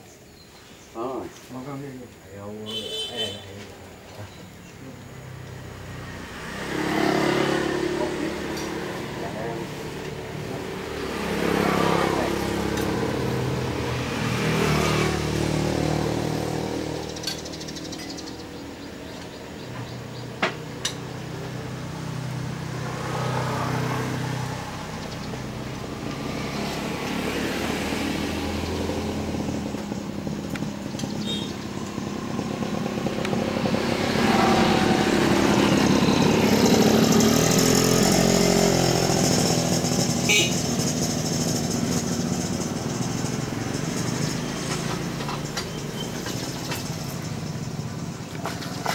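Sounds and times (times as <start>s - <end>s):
passing vehicle engines: 0.9s - 48.9s.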